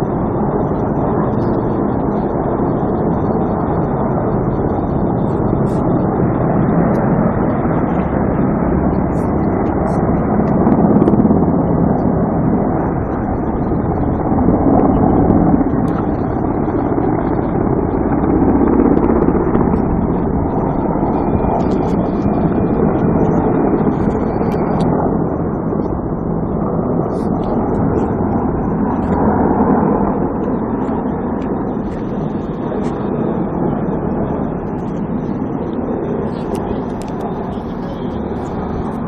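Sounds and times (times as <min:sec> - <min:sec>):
helicopter rotors and engines: 0:00.0 - 0:39.0.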